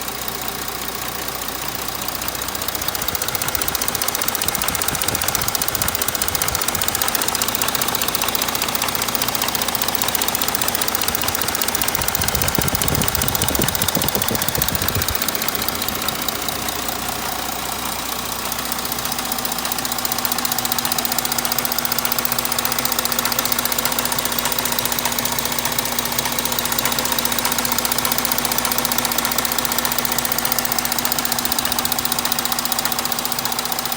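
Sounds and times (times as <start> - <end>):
diesel engine ticking clatter: 0.0 - 33.9.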